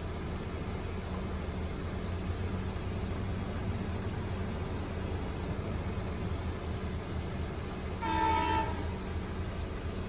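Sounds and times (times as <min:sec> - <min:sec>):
diesel train rumble: 0:00.0 - 0:10.0.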